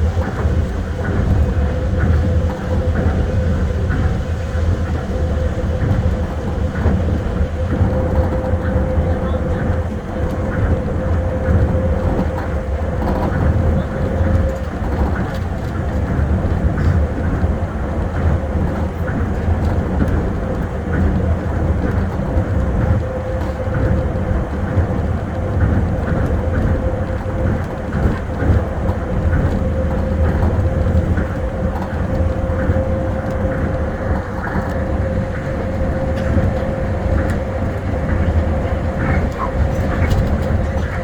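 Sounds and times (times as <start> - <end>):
train tyres rumbling on guideway: 0.0 - 41.0
train whine: 0.0 - 41.0.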